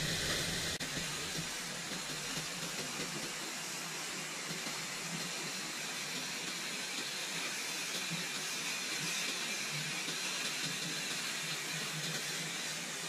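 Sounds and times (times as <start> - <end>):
waterfall rushing hiss: 0.0 - 13.0.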